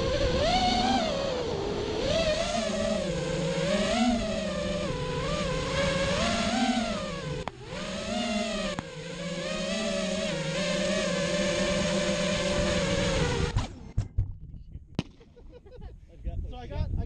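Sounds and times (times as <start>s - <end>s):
quadcopter motors whirring: 0.0s - 14.0s.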